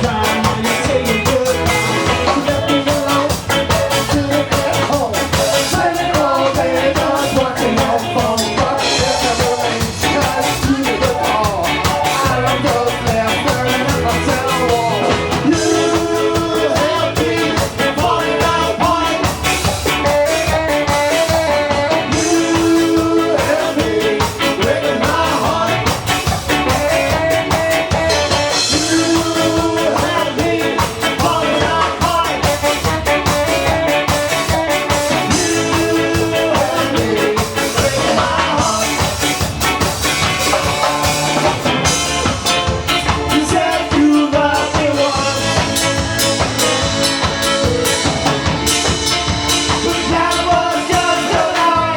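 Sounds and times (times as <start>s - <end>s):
person singing: 0.0s - 51.9s
ska band playing live: 0.0s - 51.9s.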